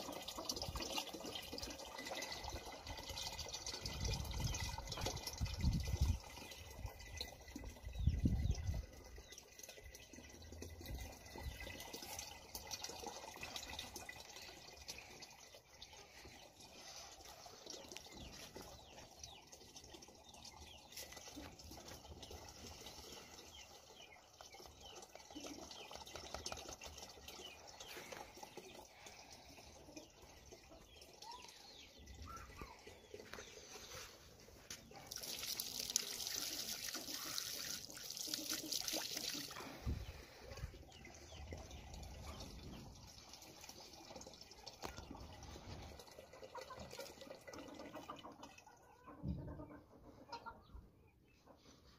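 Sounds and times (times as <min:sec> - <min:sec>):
water trickling into pool: 0:00.0 - 0:49.3.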